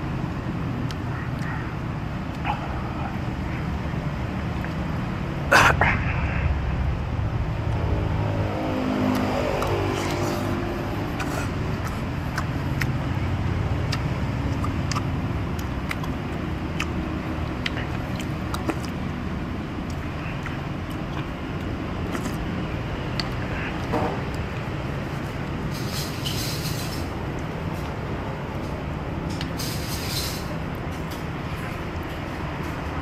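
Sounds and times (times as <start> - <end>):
engine passing: 0.0 - 33.0
road traffic rumble: 0.0 - 33.0.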